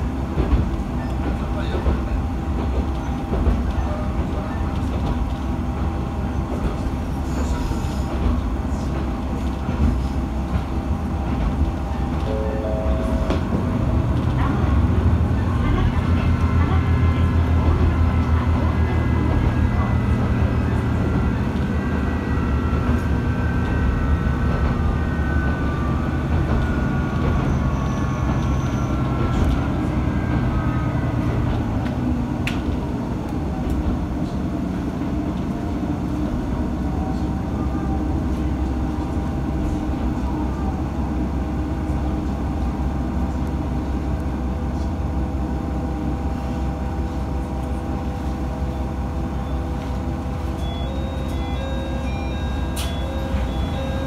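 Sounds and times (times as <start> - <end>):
diesel railcar drone and whine: 0.0 - 54.0.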